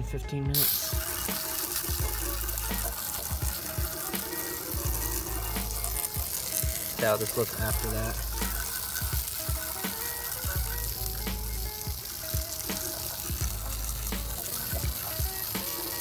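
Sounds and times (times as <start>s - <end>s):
background music: 0.0s - 16.0s
foam fizzing and crackling: 0.5s - 16.0s
foam bubbles popping: 0.6s - 16.0s.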